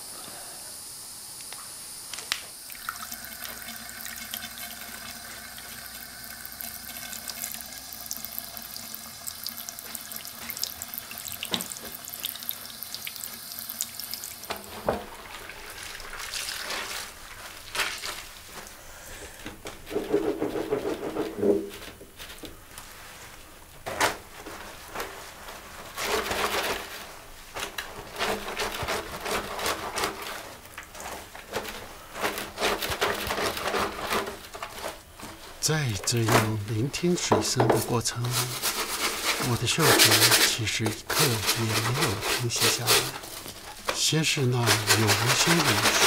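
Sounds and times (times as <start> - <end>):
clothes scrubbed and sloshed in water: 2.8 - 18.8, 24.1 - 46.0.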